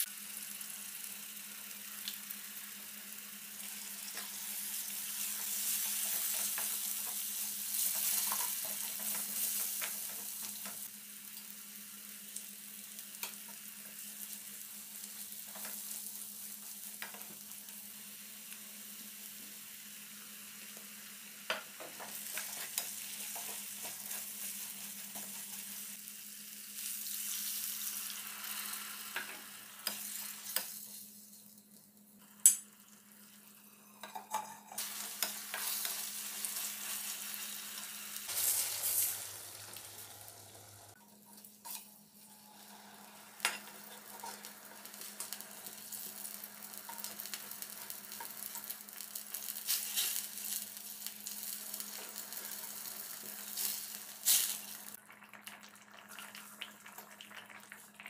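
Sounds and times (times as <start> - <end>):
gravy sizzling in oil: 0.0 - 58.0.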